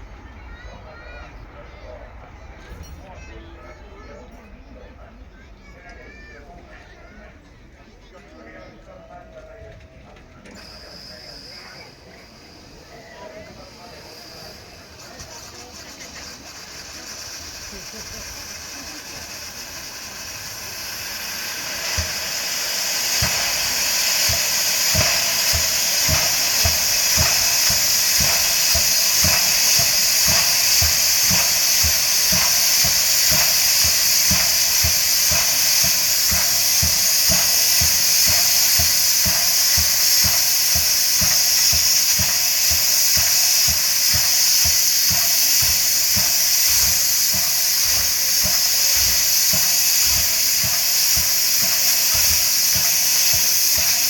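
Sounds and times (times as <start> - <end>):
steam locomotive hissing: 0.0 - 4.7, 8.6 - 54.0.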